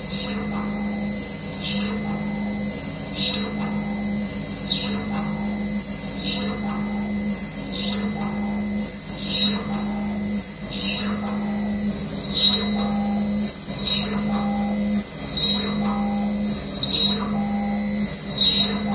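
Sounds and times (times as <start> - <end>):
drill cutting metal: 0.0 - 18.9
drill spindle humming: 0.0 - 18.9.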